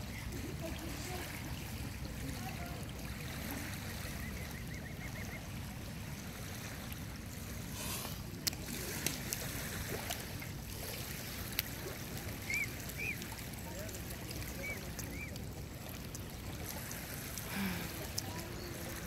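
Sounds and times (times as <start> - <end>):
shallow water sounds: 0.0 - 19.0.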